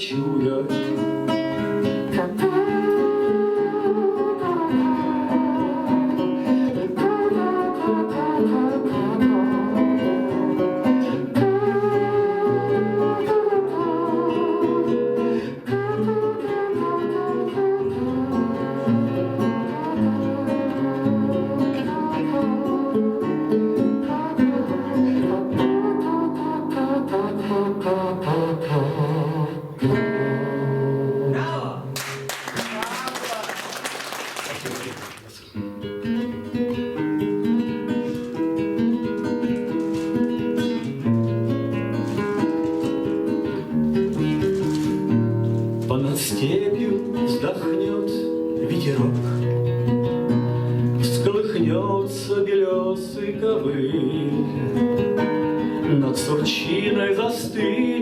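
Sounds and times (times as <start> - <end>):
acoustic guitar chords: 0.0 - 32.8, 34.8 - 58.0.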